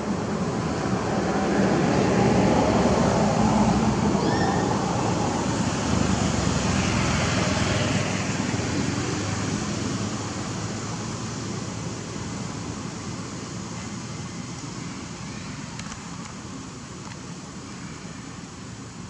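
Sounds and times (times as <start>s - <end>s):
engine rumble with hiss: 0.0s - 19.0s.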